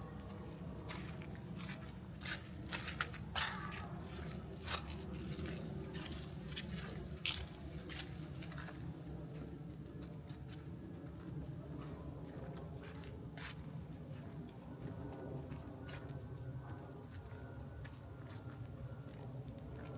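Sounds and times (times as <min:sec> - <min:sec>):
footsteps crunching on path: 0:00.1 - 0:19.9.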